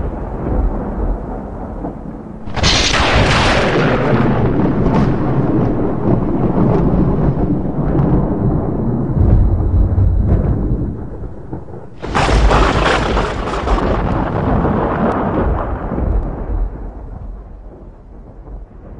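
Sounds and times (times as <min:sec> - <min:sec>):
sharp thunderclap: 0:00.0 - 0:18.9
thunder rumbling: 0:00.0 - 0:18.9.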